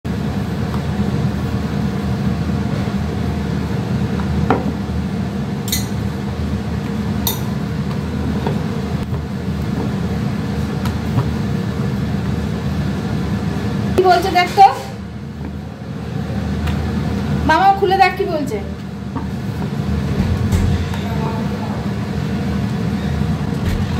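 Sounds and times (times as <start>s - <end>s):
low mechanical hum: 0.1s - 23.9s.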